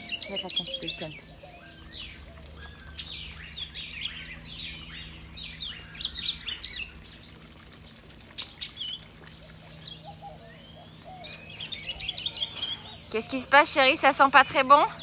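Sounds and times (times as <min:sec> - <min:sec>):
faint low hum: 0:00.0 - 0:15.0
small birds chirping: 0:00.0 - 0:15.0.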